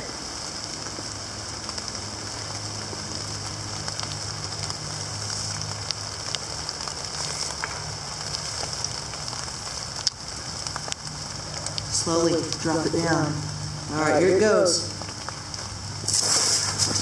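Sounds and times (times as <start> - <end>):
rain on wet leaves: 0.0 - 17.0.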